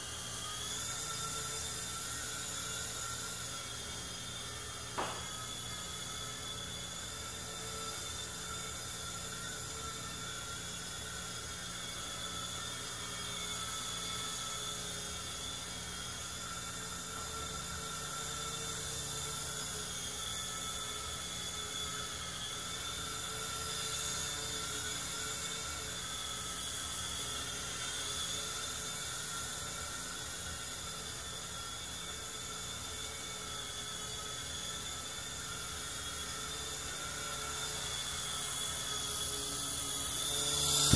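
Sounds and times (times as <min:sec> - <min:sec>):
toy helicopter rotor whining: 0:00.0 - 0:40.9.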